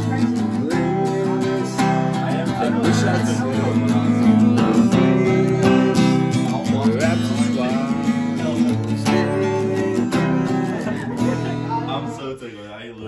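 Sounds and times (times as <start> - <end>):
acoustic guitar strumming chords: 0.0 - 12.2.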